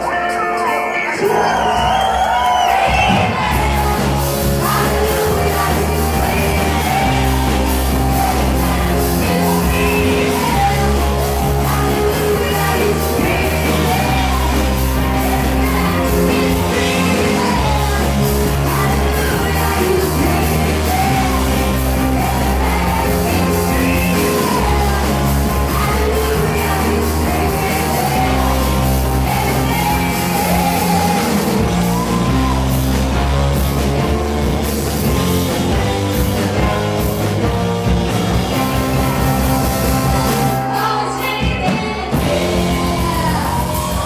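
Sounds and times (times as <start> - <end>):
live disco band with singer: 0.0 - 44.0.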